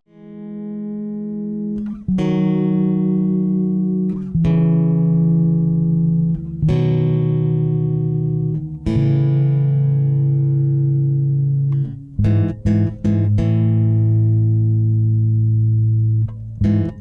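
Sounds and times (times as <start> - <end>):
guitar chords ringing: 0.1 - 17.0.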